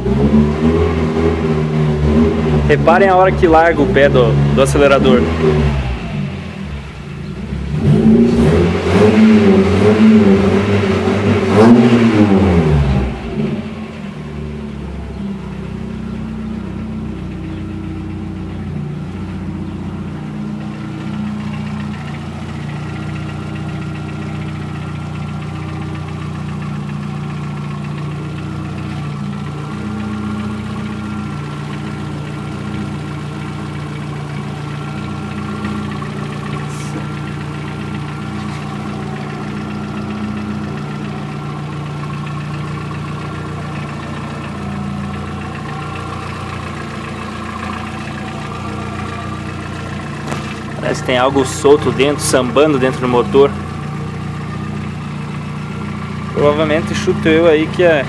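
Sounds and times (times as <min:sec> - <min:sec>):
car engine revving and idling: 0:00.0 - 0:58.0
engine clattering: 0:00.0 - 0:58.0.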